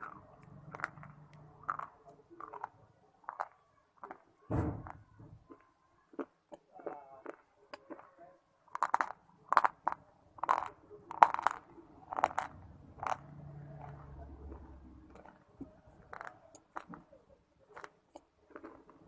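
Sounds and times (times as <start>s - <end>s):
crunching stone chewing: 0.0s - 19.0s.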